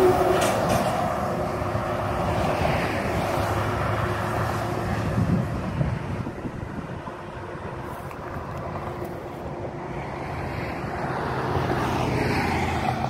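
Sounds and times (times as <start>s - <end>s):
cars passing on highway: 0.0s - 13.0s.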